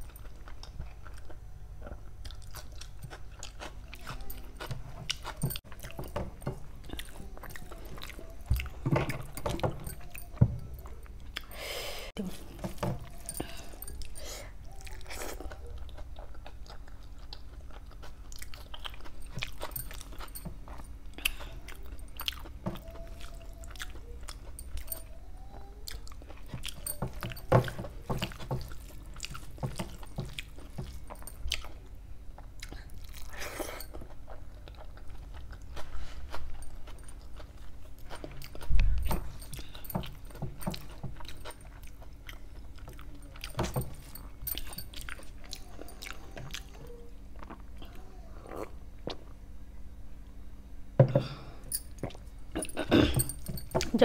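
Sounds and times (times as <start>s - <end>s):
person chewing food: 0.0s - 49.6s, 51.2s - 54.0s.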